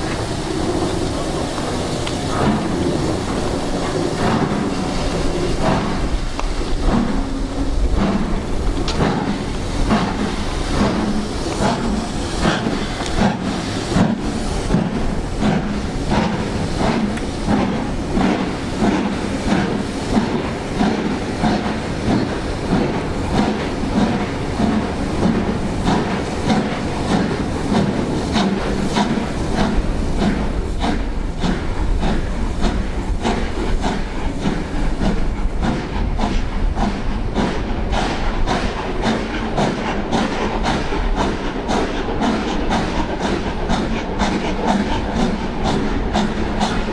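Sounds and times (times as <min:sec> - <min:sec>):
coaches clattering on rails: 0:00.0 - 0:46.9
steam hiss: 0:00.0 - 0:46.9
steam locomotive exhaust beats: 0:00.0 - 0:46.9.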